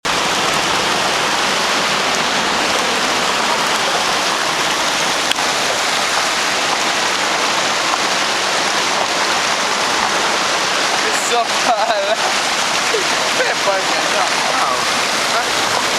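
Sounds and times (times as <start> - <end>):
floodwater rushing: 0.0 - 15.9.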